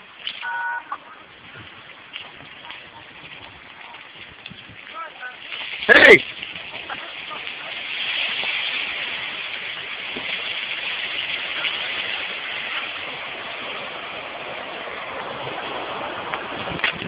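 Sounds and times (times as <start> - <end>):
landslide rushing: 0.0 - 17.0.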